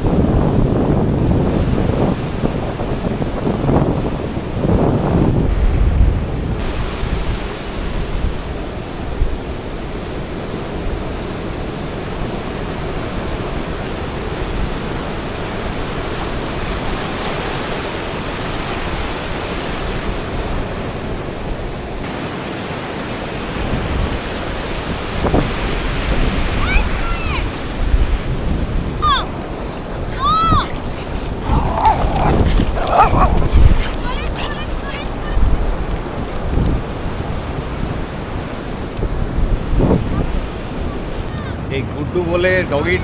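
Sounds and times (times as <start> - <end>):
wind buffeting microphone: 0.0 - 22.1, 23.4 - 43.0
surf washing onto beach: 0.0 - 43.0.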